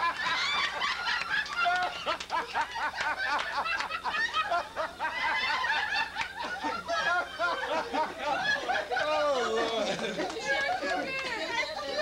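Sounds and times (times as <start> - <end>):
group of people laughing: 0.0 - 12.0.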